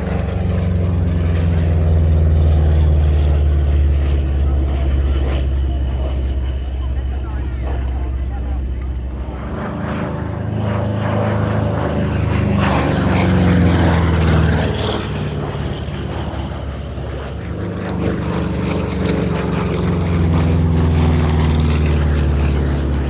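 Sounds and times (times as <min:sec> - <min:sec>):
propeller aircraft flying past: 0:00.0 - 0:23.0.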